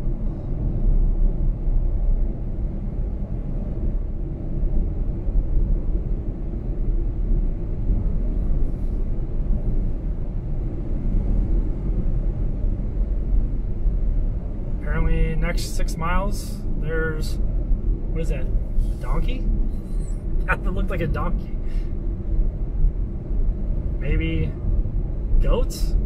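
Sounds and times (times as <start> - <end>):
car tyre road rumble: 0.0 - 26.0
wind noise: 0.0 - 26.0.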